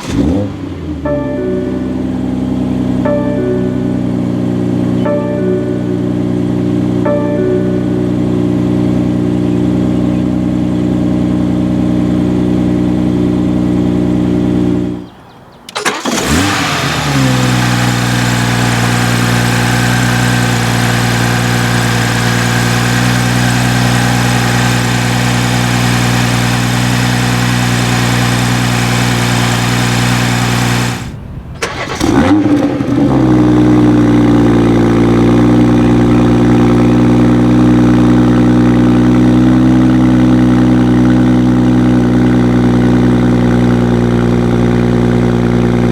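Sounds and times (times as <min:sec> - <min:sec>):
car engine idling: 0:00.0 - 0:15.1, 0:15.7 - 0:45.9
car engine starting: 0:00.0 - 0:45.9.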